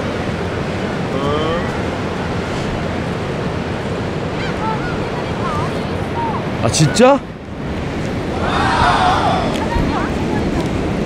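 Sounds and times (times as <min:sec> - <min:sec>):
surf lapping: 0:00.0 - 0:11.0
wind buffeting microphone: 0:00.0 - 0:11.0.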